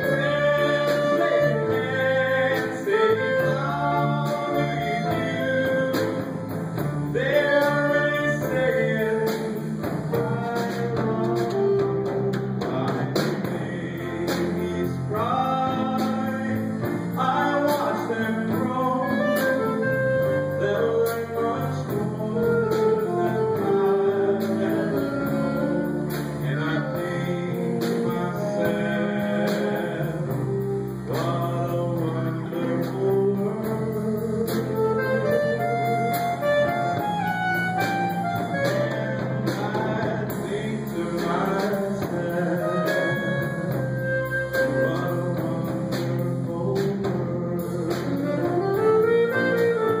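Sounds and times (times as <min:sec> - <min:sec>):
person singing: 0:00.0 - 0:06.2, 0:12.6 - 0:50.0
small jazz band playing: 0:00.0 - 0:50.0.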